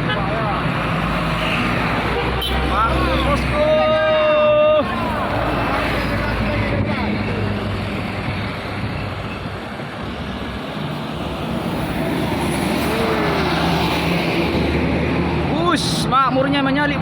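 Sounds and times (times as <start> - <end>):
heavy trucks driving uphill: 0.0 - 17.0.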